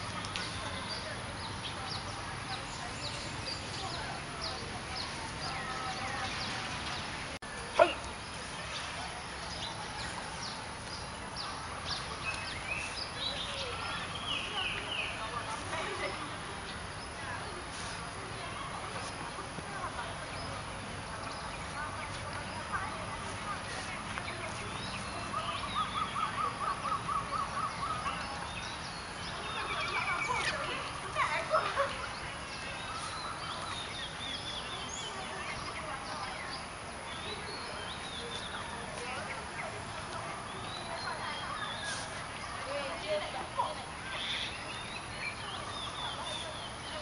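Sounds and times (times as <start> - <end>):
birds chirping: 0.0 - 47.0
steady background noise: 0.0 - 47.0.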